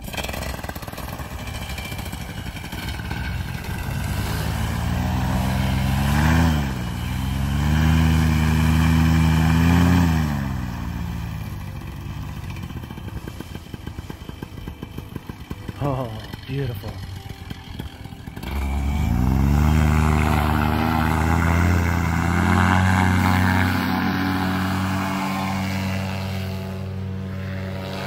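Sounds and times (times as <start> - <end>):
two-stroke paramotor engine revving: 0.0 - 28.0.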